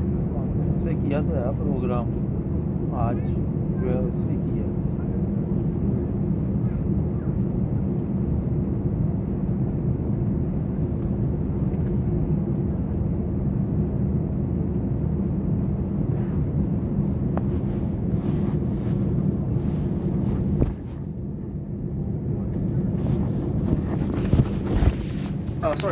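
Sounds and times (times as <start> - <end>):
aircraft cabin drone: 0.0 - 25.9.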